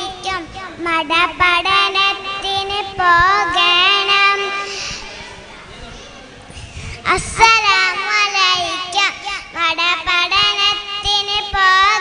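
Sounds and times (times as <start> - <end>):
girl singing: 0.0 - 5.1, 7.0 - 12.0.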